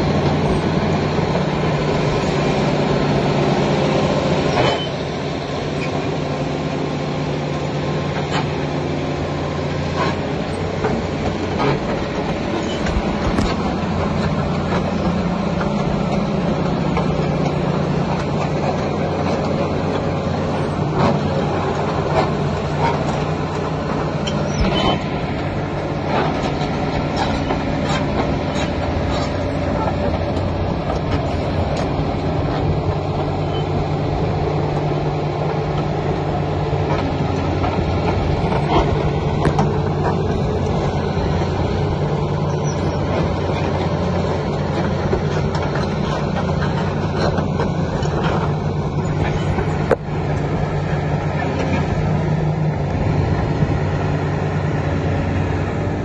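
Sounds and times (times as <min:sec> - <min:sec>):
steel tracks clanking and squeaking: 0:00.0 - 0:54.4
excavator diesel engine running: 0:00.0 - 0:56.0.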